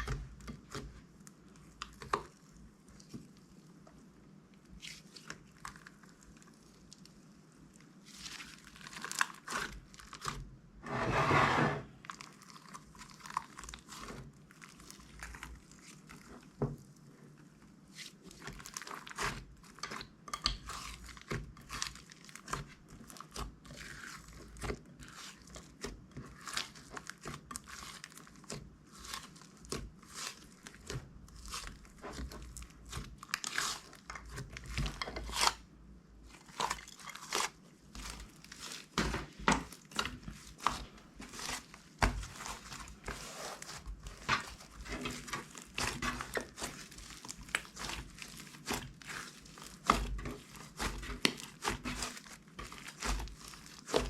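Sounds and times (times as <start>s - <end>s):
crunchy slime squished by hand: 4.6s - 10.5s, 11.8s - 54.0s.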